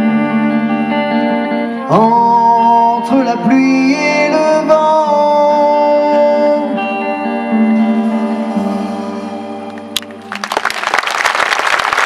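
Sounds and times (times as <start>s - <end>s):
electric guitar ringing notes: 0.0s - 11.0s.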